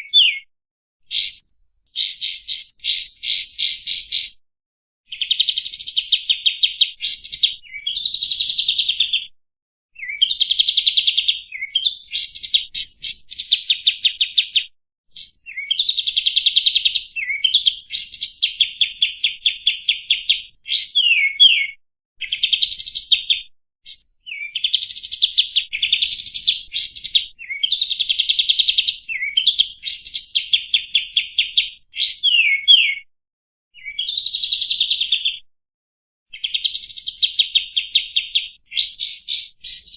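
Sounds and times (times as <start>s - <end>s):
songbird trilling and chattering: 0.0s - 0.4s, 1.1s - 4.4s, 5.1s - 9.2s, 10.0s - 33.0s, 36.3s - 39.9s.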